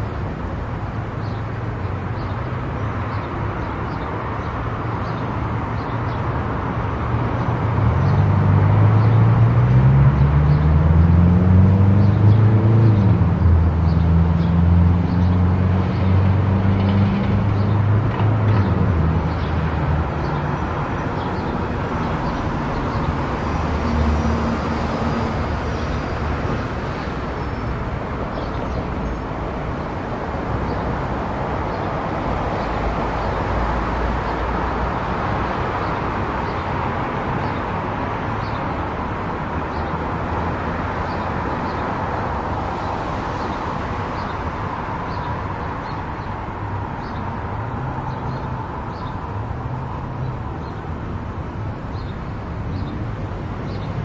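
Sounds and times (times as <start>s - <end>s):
road and tyre noise: 0.0s - 54.0s.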